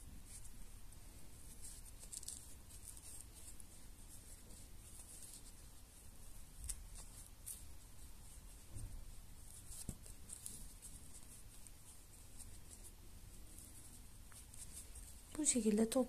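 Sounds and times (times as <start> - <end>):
crochet hook scratching yarn: 1.3 - 16.0.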